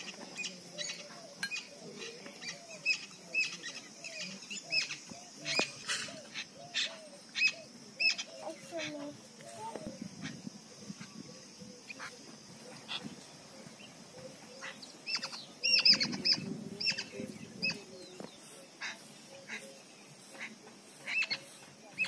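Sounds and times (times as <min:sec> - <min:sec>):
bird chirps: 0:00.0 - 0:22.0
steady high hiss: 0:00.0 - 0:22.0.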